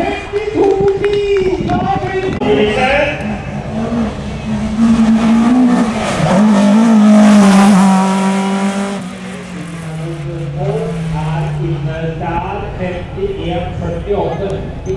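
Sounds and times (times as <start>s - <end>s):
race car engine revving: 2.6s - 14.8s.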